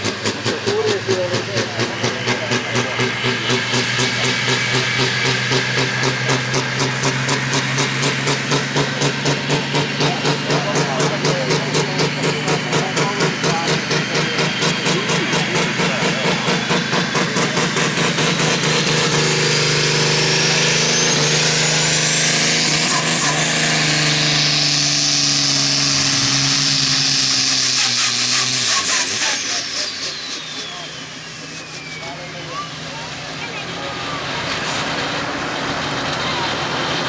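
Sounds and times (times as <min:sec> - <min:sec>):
tractor engine roaring: 0:00.0 - 0:37.0
turbocharger whine: 0:00.0 - 0:37.0.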